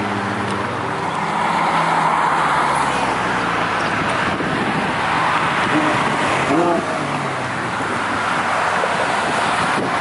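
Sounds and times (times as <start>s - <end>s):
rushing road noise: 0.0s - 10.0s.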